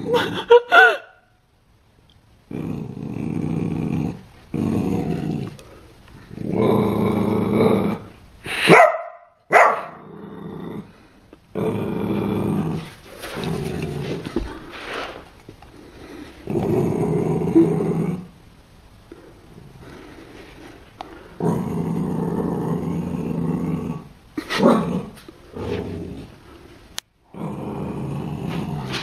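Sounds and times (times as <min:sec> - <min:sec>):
puppy growling: 0:02.5 - 0:08.2, 0:09.8 - 0:18.4, 0:19.5 - 0:29.0.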